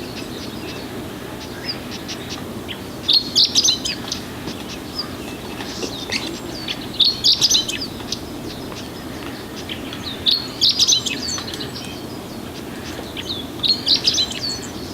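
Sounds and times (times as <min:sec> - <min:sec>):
bunting chirping song: 0:00.0 - 0:14.9.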